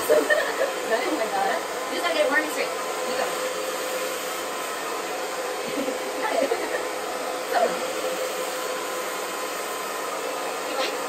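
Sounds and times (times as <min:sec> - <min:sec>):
hair dryer blowing air: 0:00.0 - 0:11.0.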